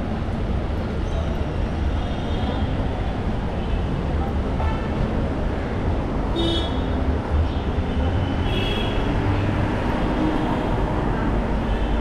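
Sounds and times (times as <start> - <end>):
rumble of vehicles: 0.0 - 12.0.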